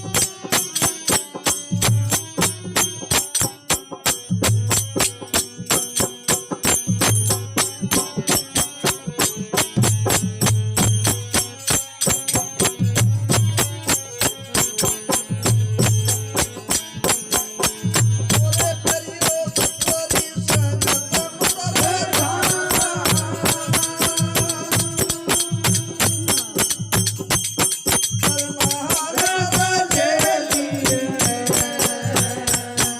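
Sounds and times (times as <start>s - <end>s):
jingling percussion: 0.0s - 32.9s.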